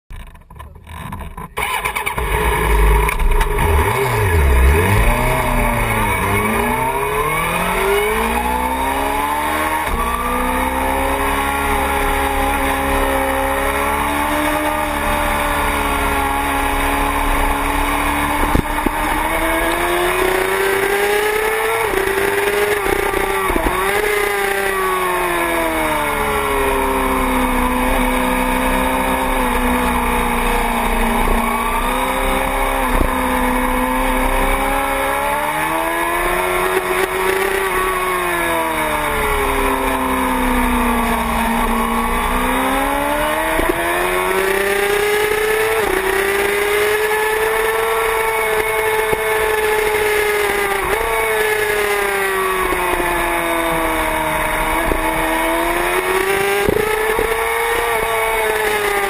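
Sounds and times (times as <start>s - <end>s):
motorcycle engine accelerating: 0.1s - 59.0s.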